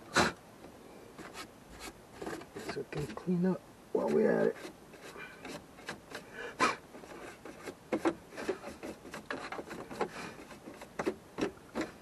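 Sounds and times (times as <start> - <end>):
plastic rubbing and scraping: 1.2 - 12.0.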